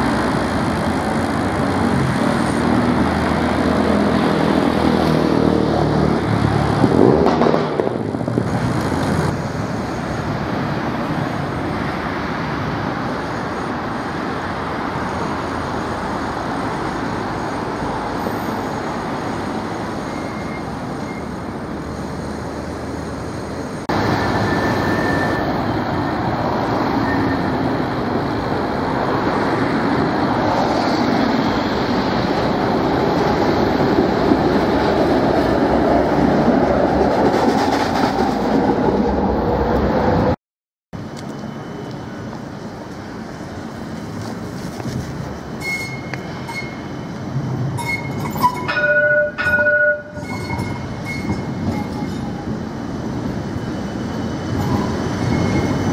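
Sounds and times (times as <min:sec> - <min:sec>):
tram rolling on tracks: 0:00.0 - 0:40.4, 0:41.0 - 0:55.9
tram wheels on rails: 0:00.0 - 0:40.4, 0:41.0 - 0:55.9
road traffic: 0:00.0 - 0:55.9.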